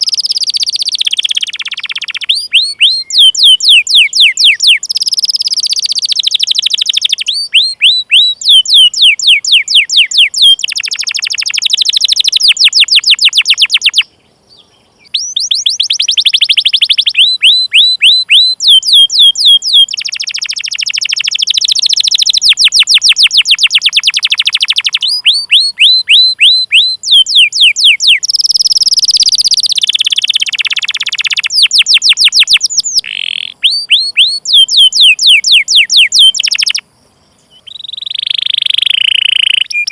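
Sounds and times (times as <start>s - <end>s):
canary singing: 0.0s - 36.8s, 37.4s - 39.9s.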